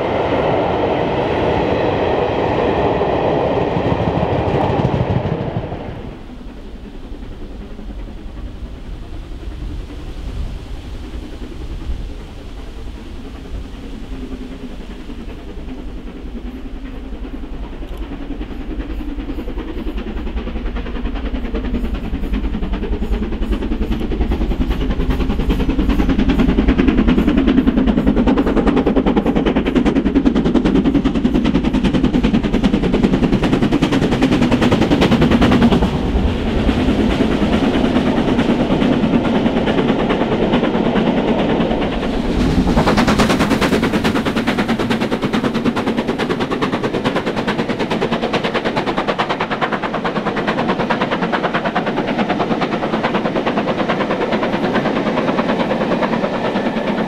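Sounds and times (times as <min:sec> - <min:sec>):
steam locomotive exhaust beats: 0:00.0 - 0:57.0.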